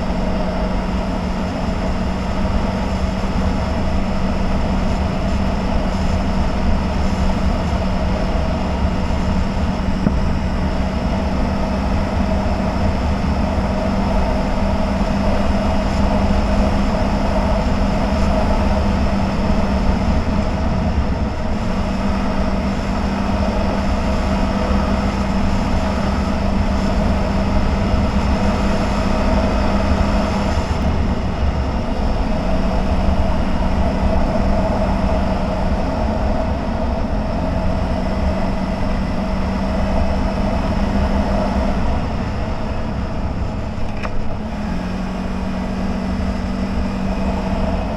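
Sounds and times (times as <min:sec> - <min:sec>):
off-road vehicle engine running: 0:00.0 - 0:47.9
ride noise rumble and hiss: 0:00.0 - 0:47.9.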